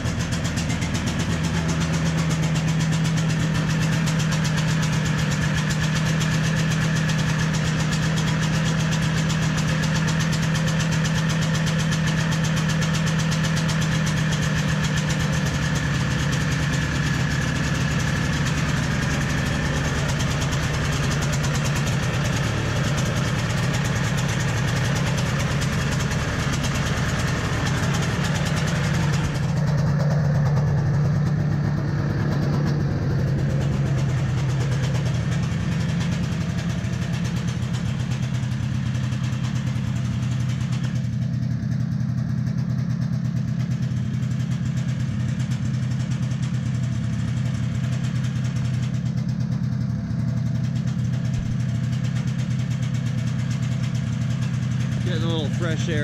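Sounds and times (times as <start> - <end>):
snowmobile engine idling: 0.0 - 56.0.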